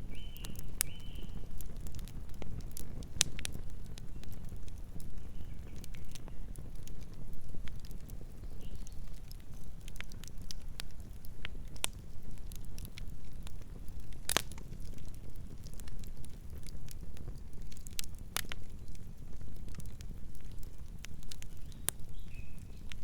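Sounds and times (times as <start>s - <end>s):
burning wood crackling and popping: 0.0s - 23.0s
campfire flames rumbling: 0.0s - 23.0s.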